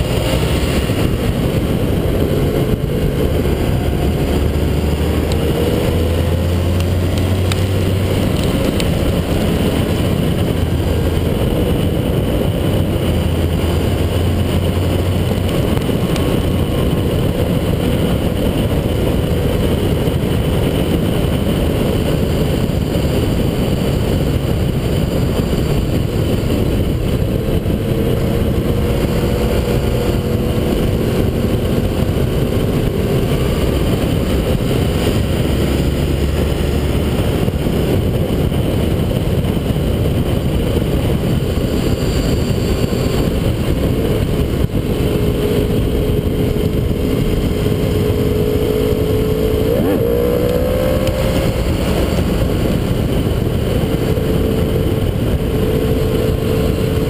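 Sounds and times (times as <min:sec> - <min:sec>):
motorcycle engine accelerating: 0:00.0 - 0:57.0
wind and tyre noise: 0:00.0 - 0:57.0.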